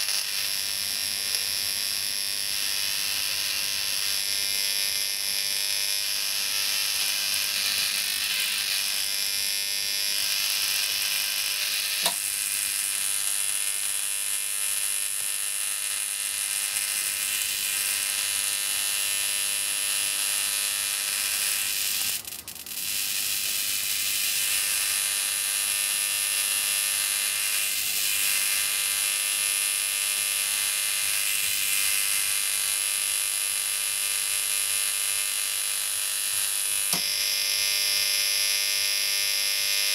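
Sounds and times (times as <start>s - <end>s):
electric arc buzzing hiss: 0.0s - 39.9s.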